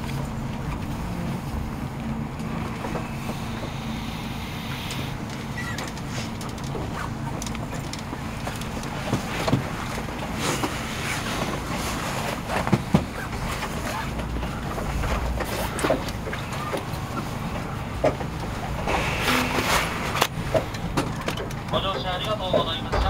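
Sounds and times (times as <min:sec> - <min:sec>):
train rumbling to a stop: 0:00.0 - 0:23.0.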